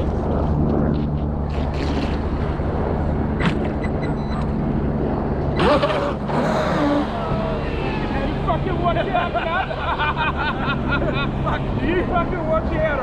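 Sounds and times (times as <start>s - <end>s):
low mechanical hum: 0.0s - 13.0s
outdoor background noise: 0.0s - 13.0s.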